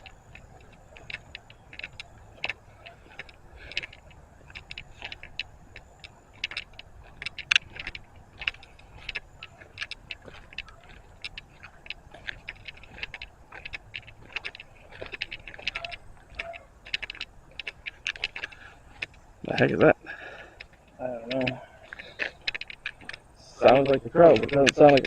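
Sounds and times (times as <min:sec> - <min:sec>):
footsteps crunching on gravel: 0:00.0 - 0:25.0.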